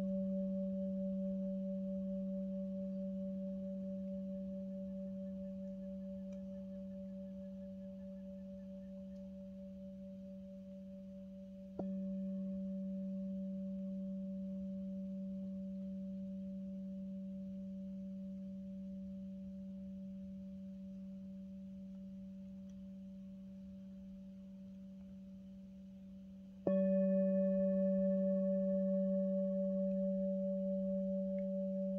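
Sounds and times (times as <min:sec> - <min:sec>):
singing bowl ringing: 0:00.0 - 0:25.2, 0:26.6 - 0:31.9.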